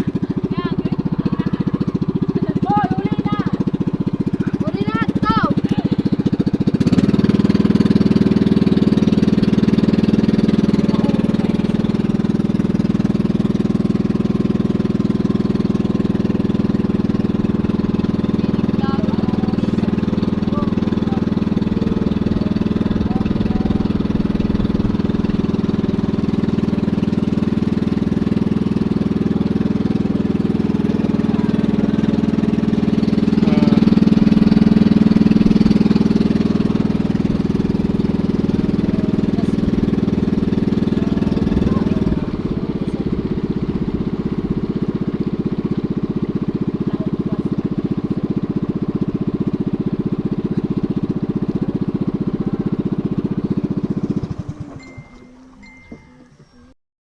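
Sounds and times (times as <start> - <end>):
small engine running: 0.0 - 56.8.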